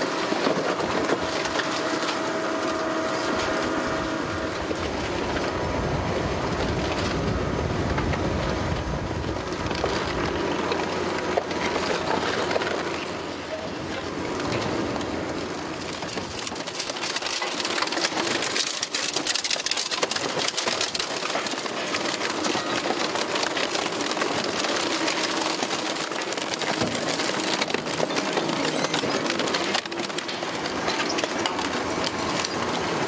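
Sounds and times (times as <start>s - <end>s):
shredder tearing metal: 0.0s - 33.0s.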